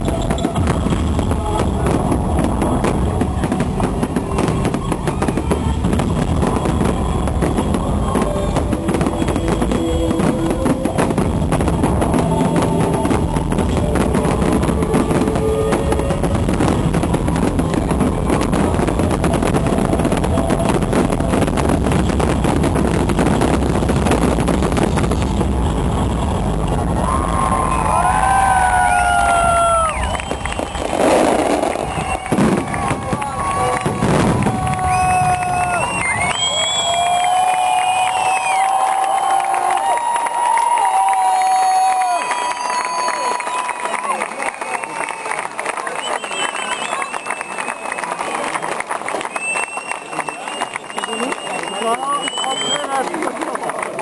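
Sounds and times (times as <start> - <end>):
fireworks bangs and crackling: 0.0 - 54.0.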